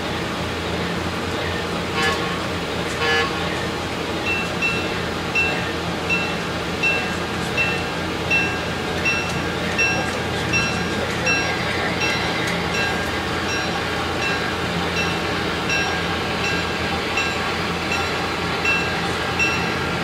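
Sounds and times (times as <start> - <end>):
diesel engine hum: 0.0 - 20.0
locomotive bell ringing: 1.4 - 20.0.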